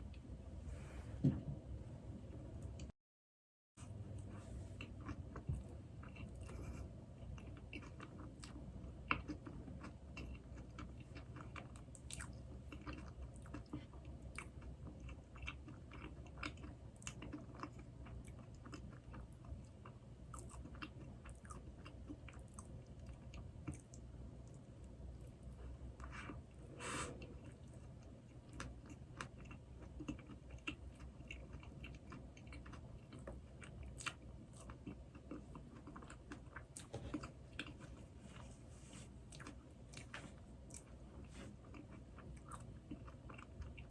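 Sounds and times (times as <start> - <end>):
close chewing of doughnuts: 4.2 - 43.9.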